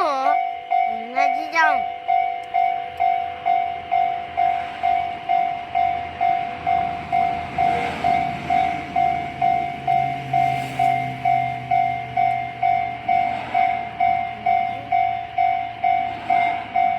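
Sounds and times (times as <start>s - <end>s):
level-crossing warning bell ringing: 0.0s - 16.9s.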